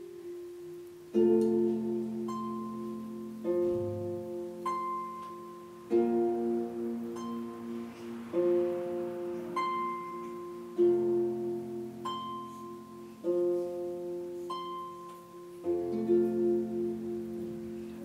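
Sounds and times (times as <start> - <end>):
harp playing: 0.0 - 18.0.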